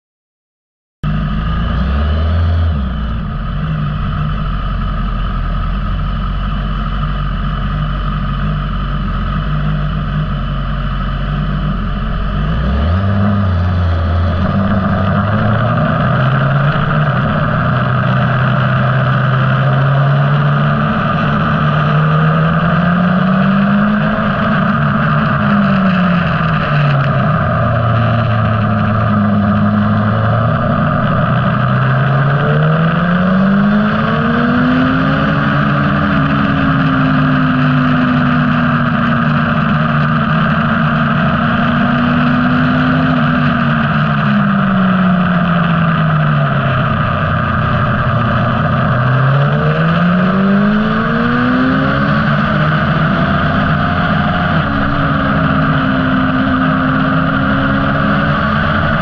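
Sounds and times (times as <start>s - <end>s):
motorcycle engine revving: 1.0s - 59.0s
rushing wind noise: 1.7s - 59.0s.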